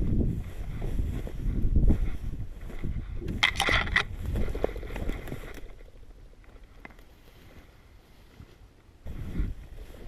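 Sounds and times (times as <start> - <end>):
footsteps crunching dry vegetation: 0.0 - 10.0
wind rumble on microphone: 0.0 - 10.0.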